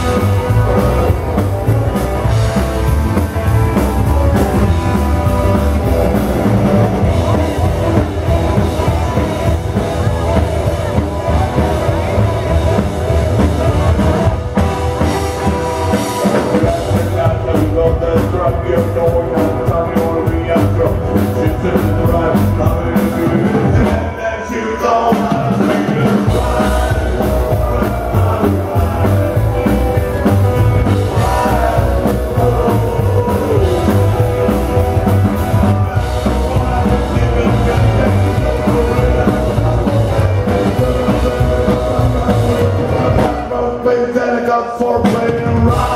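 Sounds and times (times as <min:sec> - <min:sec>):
bass guitar: 0:00.0 - 0:45.9
drums: 0:00.0 - 0:45.9
live rock band playing: 0:00.0 - 0:45.9
man singing: 0:00.0 - 0:45.9.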